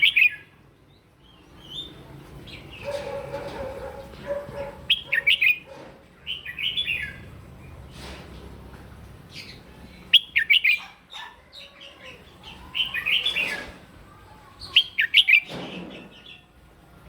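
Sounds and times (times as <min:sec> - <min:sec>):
bulbul singing: 0:00.0 - 0:03.2, 0:04.0 - 0:07.8, 0:09.3 - 0:16.6.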